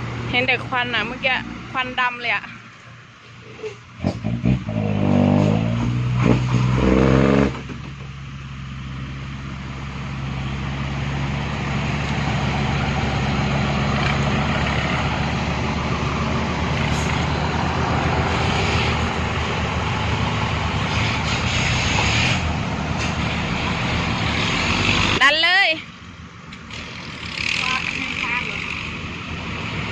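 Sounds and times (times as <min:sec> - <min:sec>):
heavy diesel engine revving: 0:04.0 - 0:25.6, 0:26.6 - 0:29.9.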